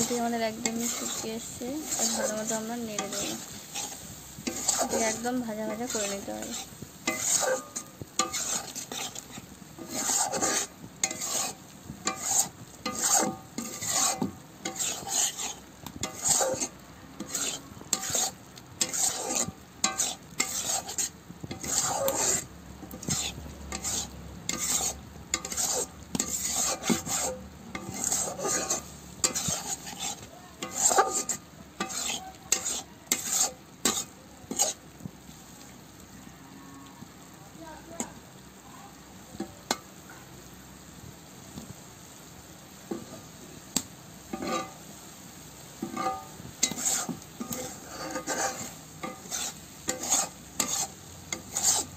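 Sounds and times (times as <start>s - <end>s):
spatula scraping and stirring: 0.0s - 35.4s, 38.9s - 39.9s, 42.8s - 51.9s
hot oil sizzling: 0.0s - 51.9s.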